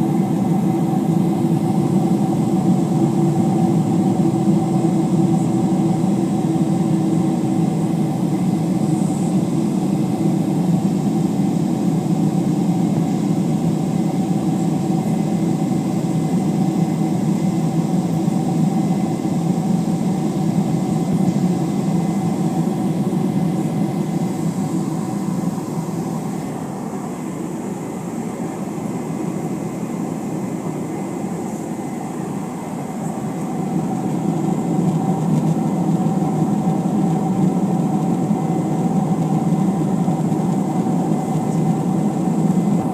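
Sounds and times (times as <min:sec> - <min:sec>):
jet engines droning: 0:00.0 - 0:42.9.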